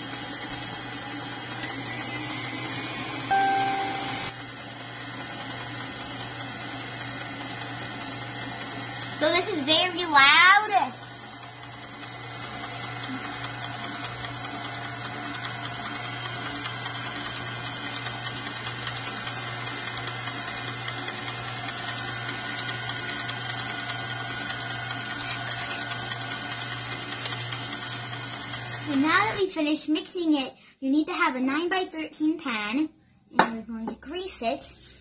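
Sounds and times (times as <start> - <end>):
stand mixer motor hum: 0.0 - 29.4.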